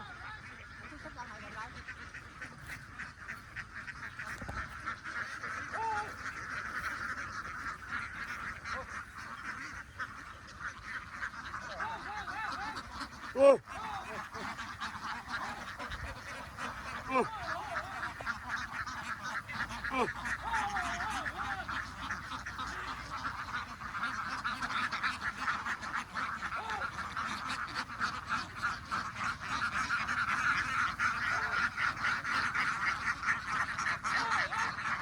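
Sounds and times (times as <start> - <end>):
flock of ducks quacking: 0.0 - 35.0
sharp duck call: 5.2 - 35.0.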